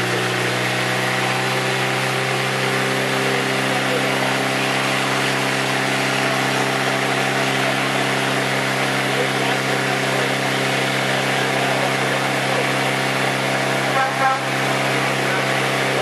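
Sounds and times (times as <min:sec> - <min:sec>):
fire pump engine running: 0:00.0 - 0:16.0.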